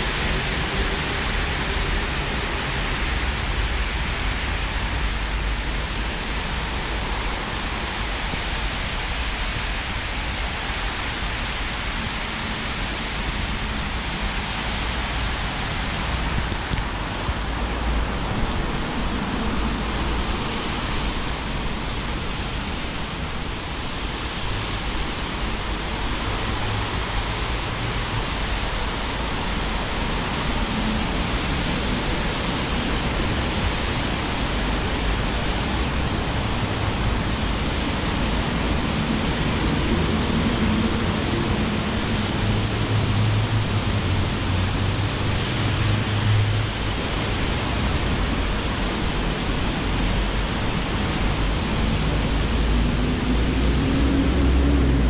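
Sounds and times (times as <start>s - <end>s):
traffic on wet roads: 0.0s - 55.0s
vehicle engine hum: 0.0s - 55.0s
wind rushing on microphone: 0.0s - 55.0s.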